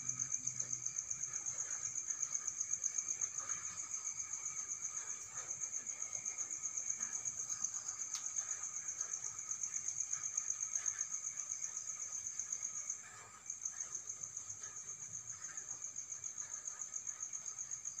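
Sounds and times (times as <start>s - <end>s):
cricket chirping: 0.0s - 18.0s.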